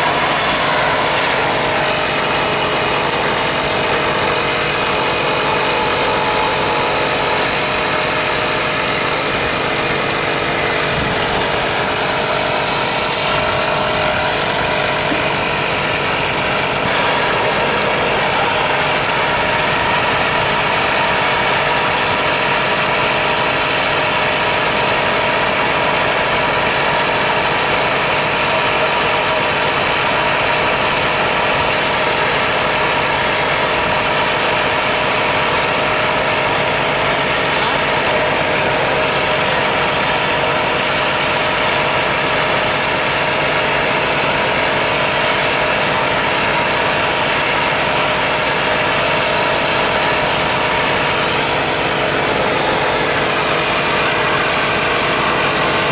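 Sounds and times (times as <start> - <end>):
machine running with steady hiss: 0.0 - 55.9.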